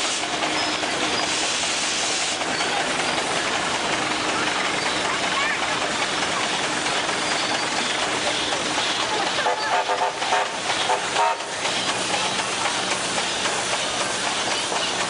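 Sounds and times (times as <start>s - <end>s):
steam engine hissing: 0.0s - 15.0s.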